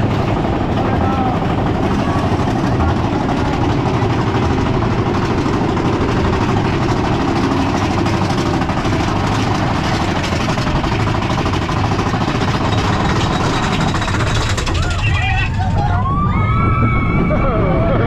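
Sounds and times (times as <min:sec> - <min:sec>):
roller coaster rumbling on track: 0:00.0 - 0:18.0.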